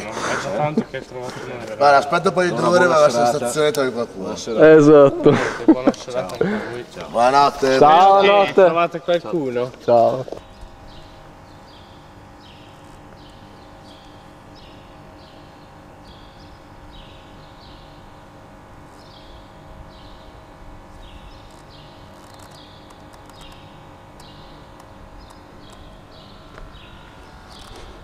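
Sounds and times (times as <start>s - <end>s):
faint steady hum: 0.0s - 28.0s
small birds chirping: 5.4s - 28.0s.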